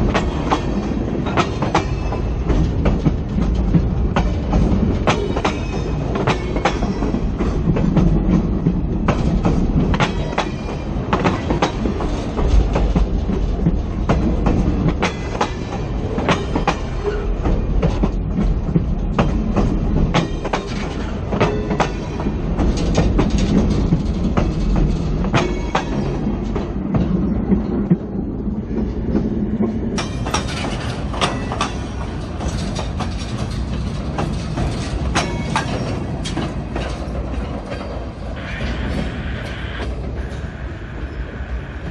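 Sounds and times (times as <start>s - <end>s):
train low rumble: 0.0s - 41.9s
train wheels clicking over rails: 0.0s - 41.9s.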